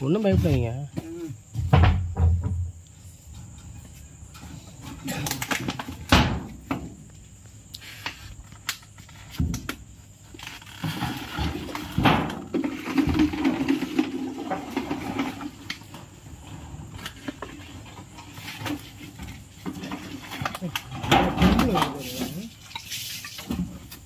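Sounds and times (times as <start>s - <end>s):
wooden boards knocking and rustling: 0.0s - 2.8s, 3.4s - 7.1s, 8.7s - 9.9s, 10.8s - 16.1s, 16.7s - 22.5s, 23.4s - 24.0s.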